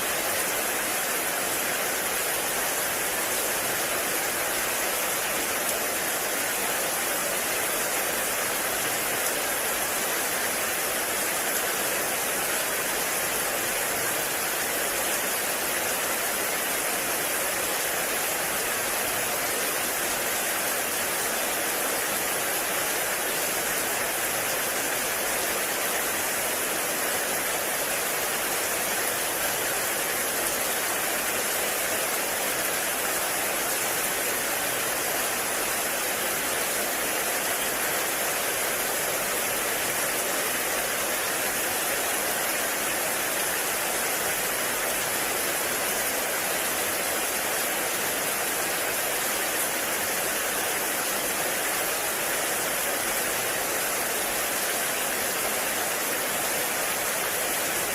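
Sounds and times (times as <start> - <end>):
heavy rain in a forest: 0.0 - 57.9.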